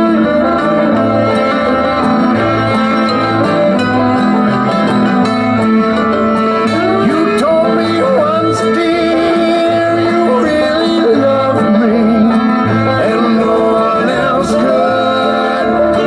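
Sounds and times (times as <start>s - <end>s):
country tune with plucked guitar: 0.0s - 16.0s.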